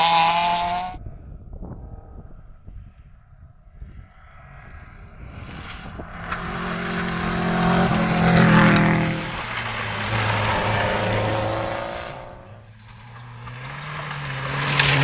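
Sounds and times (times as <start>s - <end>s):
rally car passing at full speed: 0.0s - 1.2s, 1.8s - 15.0s.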